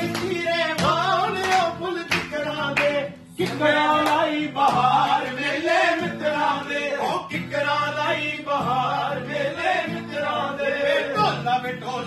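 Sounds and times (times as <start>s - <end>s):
men singing folk song: 0.0s - 12.0s
strummed acoustic guitar: 0.0s - 12.0s.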